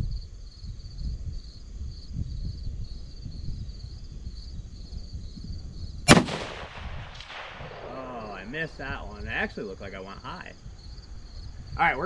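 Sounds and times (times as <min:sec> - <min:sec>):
insects chirping: 0:00.0 - 0:12.0
wind on microphone: 0:00.0 - 0:12.0.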